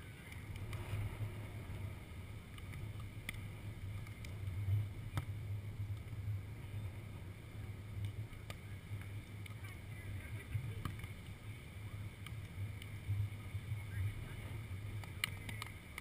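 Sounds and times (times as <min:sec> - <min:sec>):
steady low rumble: 0:00.0 - 0:16.0
wind buffeting microphone: 0:00.0 - 0:16.0.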